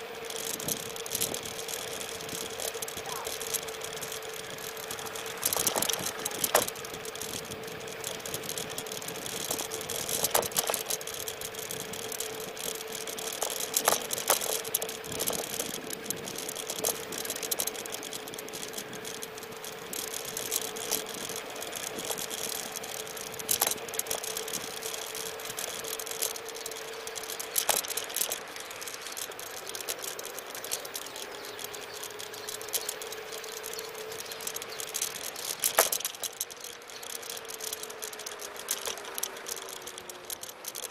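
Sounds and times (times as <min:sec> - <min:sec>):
electric scooter motor whine: 0:00.0 - 0:40.9
road and wind noise: 0:00.0 - 0:40.9
scooter rattling over bumps: 0:00.0 - 0:40.9.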